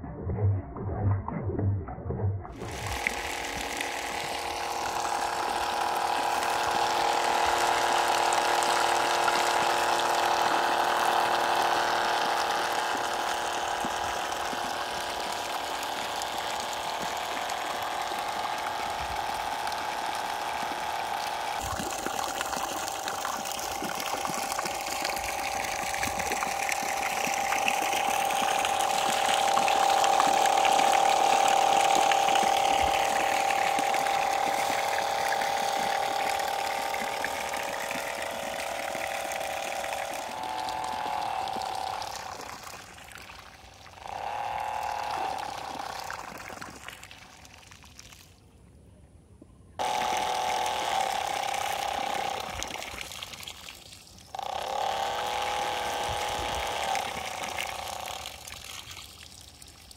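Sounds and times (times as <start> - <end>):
small motor whining: 2.6 - 47.4, 49.8 - 59.1
water jet hissing and splashing: 2.6 - 48.4, 49.8 - 59.9.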